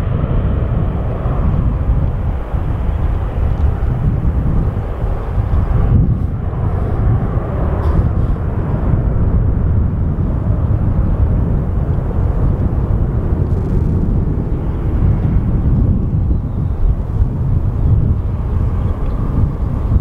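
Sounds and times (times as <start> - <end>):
jet airliner engines rumbling: 0.0 - 20.0.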